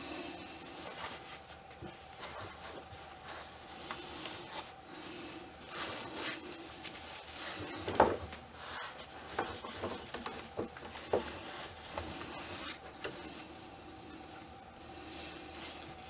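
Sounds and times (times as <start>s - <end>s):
cloth rustling: 0.0s - 16.0s.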